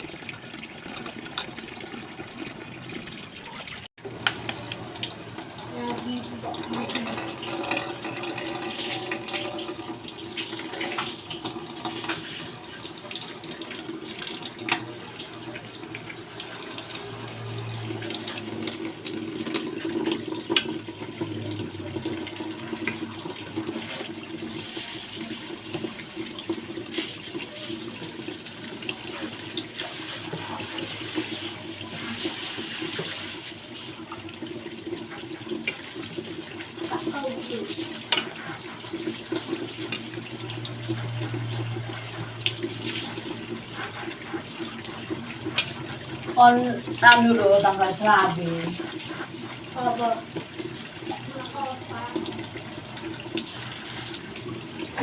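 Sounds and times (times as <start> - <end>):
water running from tap: 0.0 - 55.0.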